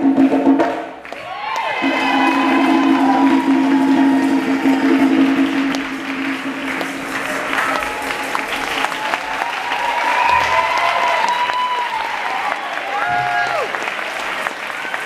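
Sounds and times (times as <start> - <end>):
audience applauding and cheering: 1.0 - 15.0.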